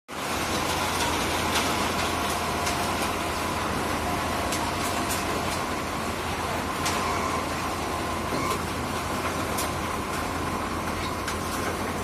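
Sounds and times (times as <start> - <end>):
tractor engine running: 0.1 - 12.0.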